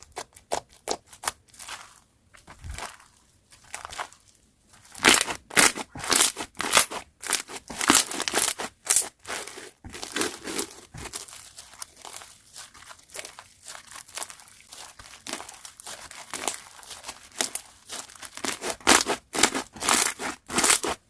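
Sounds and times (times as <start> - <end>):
wet crackly slime squishes: 0.0 - 21.0.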